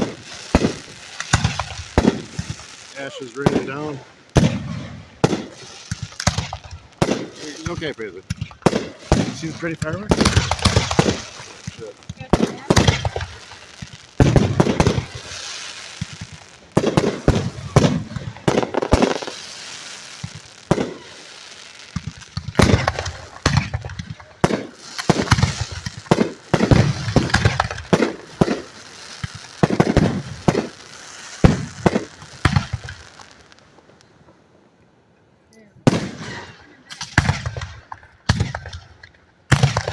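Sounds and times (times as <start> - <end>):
fireworks bursting with loud bangs: 0.0 - 34.4, 35.8 - 39.9
fireworks crackling and hissing: 0.0 - 39.9.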